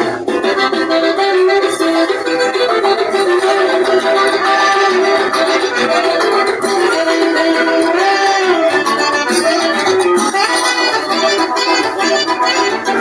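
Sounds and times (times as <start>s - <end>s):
accordion melody: 0.0s - 13.0s.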